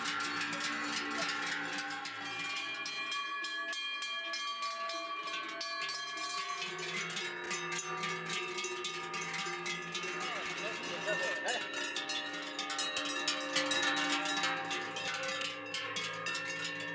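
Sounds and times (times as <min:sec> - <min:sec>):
cowbells clanging: 0:00.0 - 0:16.9.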